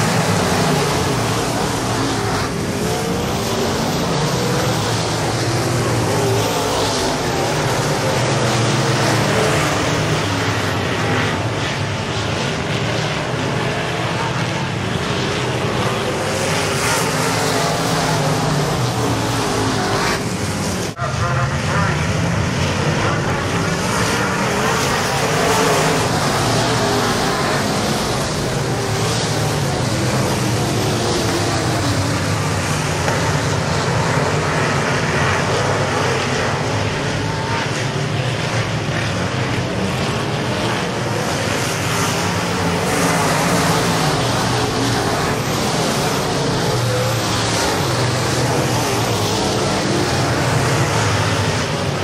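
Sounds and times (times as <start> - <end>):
race car engines running hard: 0.0 - 52.0.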